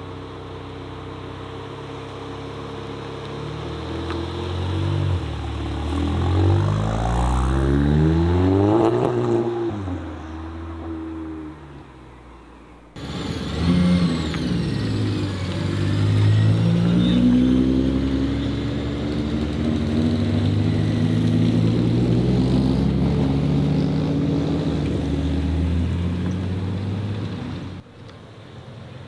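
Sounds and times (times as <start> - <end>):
car engine revving: 1.4 - 27.8.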